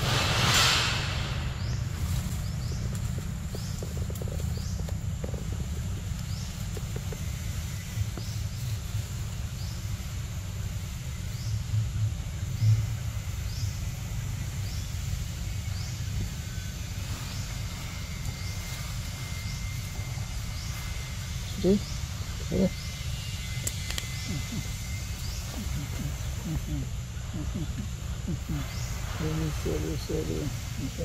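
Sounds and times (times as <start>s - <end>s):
low forest rumble: 0.0s - 31.0s.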